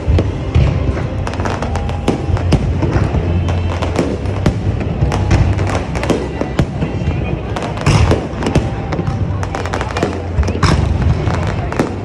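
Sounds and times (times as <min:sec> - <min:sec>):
fireworks bangs and crackles: 0:00.0 - 0:12.0
music with deep bass: 0:00.0 - 0:12.0.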